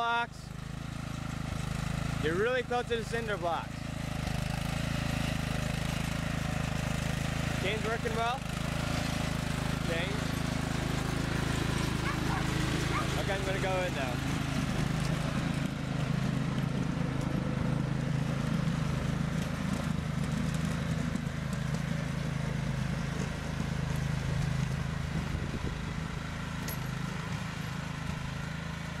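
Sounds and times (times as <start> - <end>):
lawn tractor engine running: 0.0 - 29.0.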